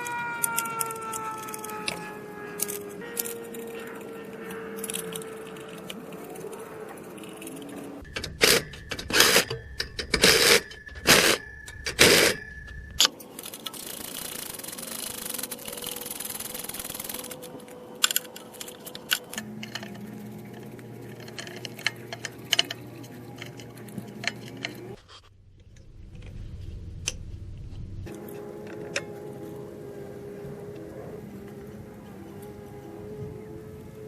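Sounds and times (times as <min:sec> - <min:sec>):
hand tools clicking and rattling: 0:00.0 - 0:25.1, 0:28.1 - 0:32.8.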